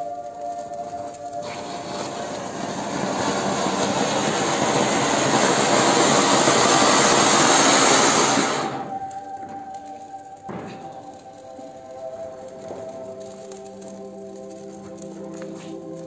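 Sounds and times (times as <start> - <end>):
firework fountain hissing: 0.0 - 16.0.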